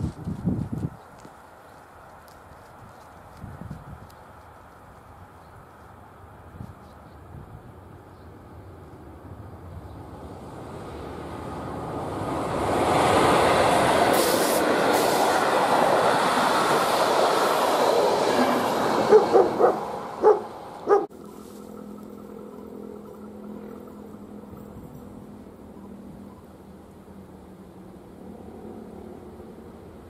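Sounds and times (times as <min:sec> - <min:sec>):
train passing with rumble: 0:00.0 - 0:30.0.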